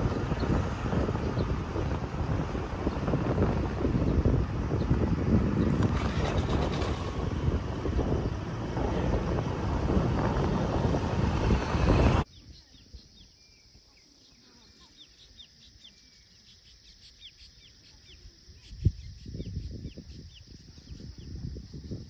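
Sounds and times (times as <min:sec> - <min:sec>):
birds chirping: 0:00.0 - 0:21.3.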